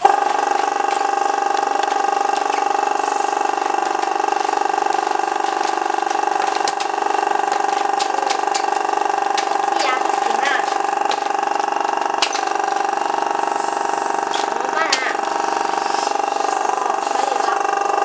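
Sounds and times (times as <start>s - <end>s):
electric air pump humming: 0.0s - 18.0s.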